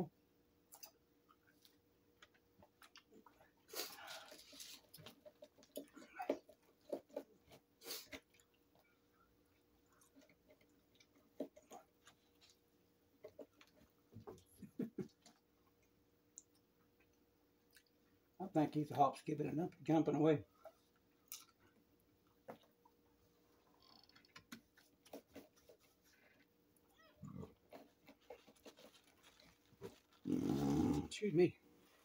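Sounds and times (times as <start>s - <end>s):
chewing fries: 0.7s - 18.3s, 20.6s - 31.0s.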